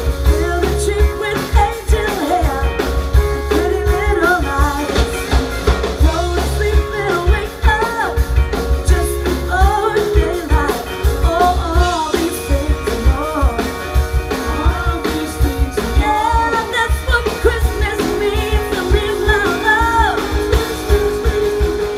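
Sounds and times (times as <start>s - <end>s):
drums: 0.0s - 21.9s
electric guitar: 0.0s - 21.9s
keyboard: 0.0s - 21.9s
person singing: 0.0s - 21.9s.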